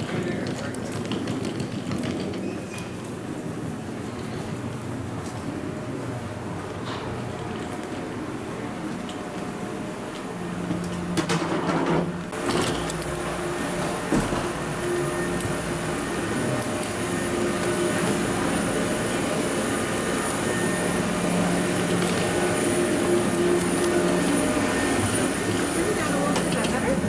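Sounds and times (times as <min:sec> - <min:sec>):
airplane cabin hum: 0:03.1 - 0:27.0.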